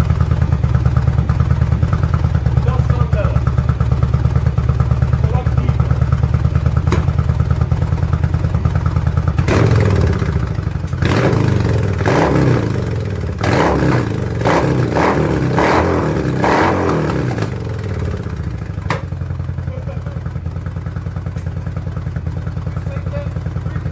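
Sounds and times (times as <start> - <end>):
motorcycle engine idling and revving: 0.0 - 23.9.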